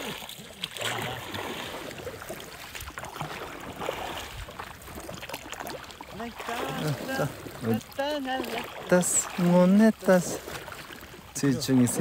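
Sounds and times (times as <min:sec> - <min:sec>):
paddles splashing lake water: 0:00.0 - 0:12.0.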